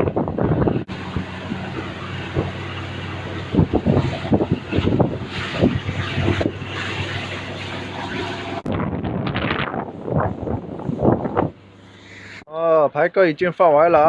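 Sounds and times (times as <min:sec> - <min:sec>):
wind buffeting microphone: 0:00.0 - 0:11.8
boat engine running: 0:00.0 - 0:12.4.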